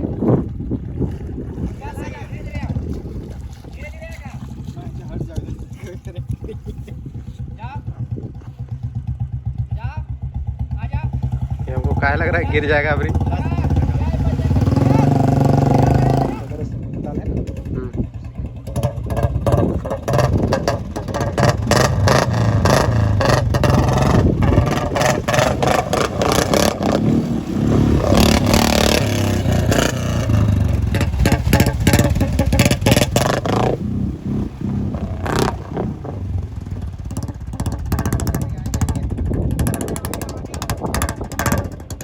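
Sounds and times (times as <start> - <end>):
motorcycle engine revving: 7.6 - 42.0.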